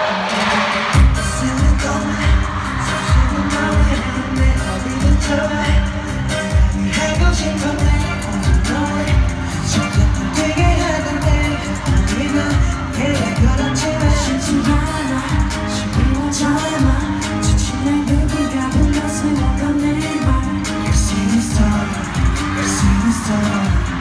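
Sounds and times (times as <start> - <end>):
man singing into microphone: 0.0 - 24.0
pop backing track with thumping beat: 0.0 - 24.0.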